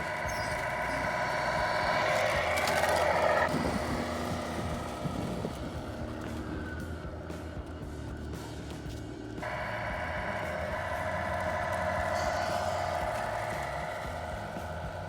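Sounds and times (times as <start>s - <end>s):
toy truck motor whining: 0.0s - 15.0s.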